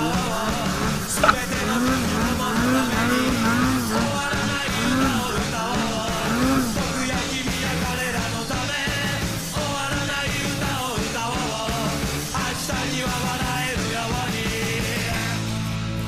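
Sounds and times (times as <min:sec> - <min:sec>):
shouted singing: 0:00.0 - 0:15.2
punk rock music: 0:00.0 - 0:16.0.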